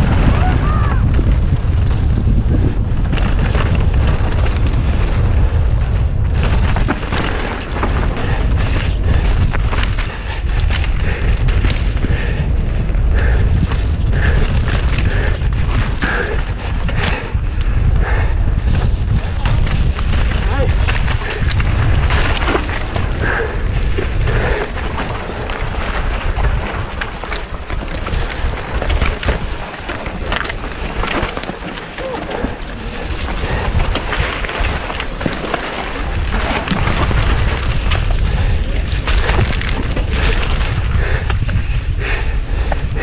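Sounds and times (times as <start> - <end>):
wind rumble on microphone: 0.0 - 43.0
bike chain and frame rattling: 0.4 - 43.0.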